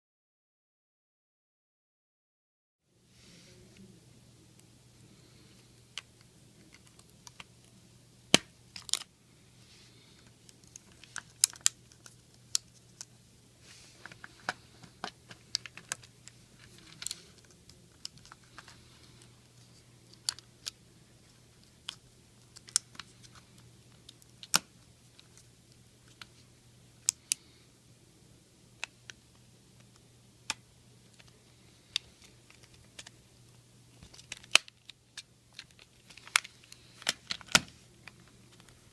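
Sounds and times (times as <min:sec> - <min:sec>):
faint low hum: 0:02.9 - 0:38.9.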